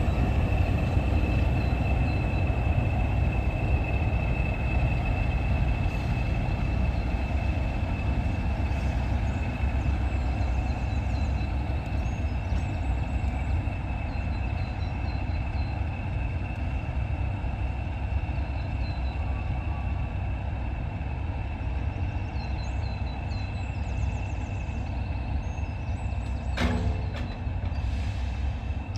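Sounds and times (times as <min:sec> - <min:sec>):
diesel locomotive engine rumbling: 0:00.0 - 0:28.9.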